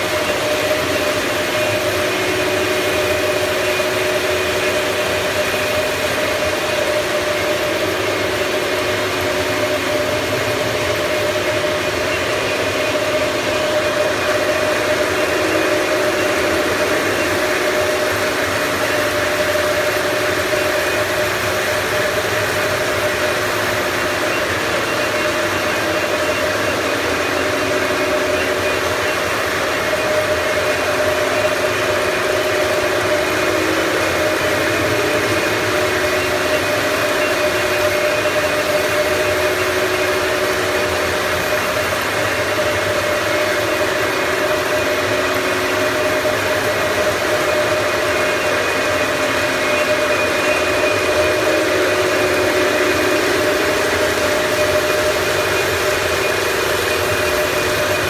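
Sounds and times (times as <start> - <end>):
steady mechanical hum: 0.0 - 58.0.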